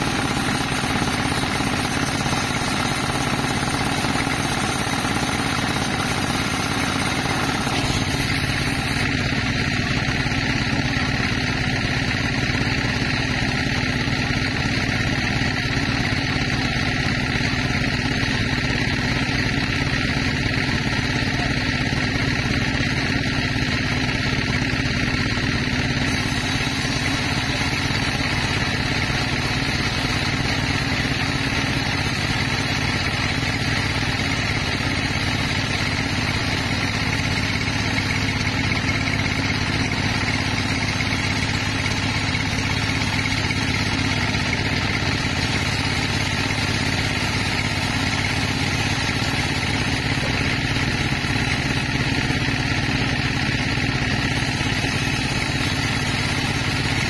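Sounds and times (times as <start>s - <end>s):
band sawmill cutting log: 0.0s - 57.0s.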